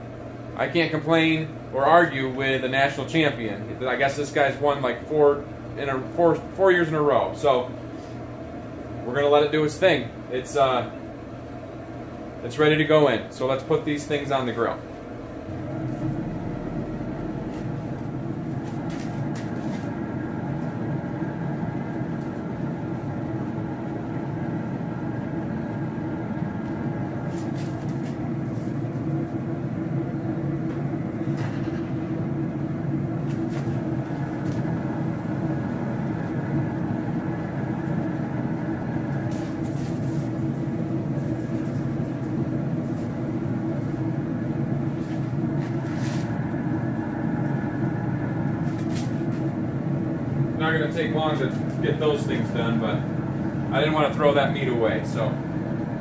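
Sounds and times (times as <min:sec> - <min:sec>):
smoker fan humming: 0:00.0 - 0:56.0.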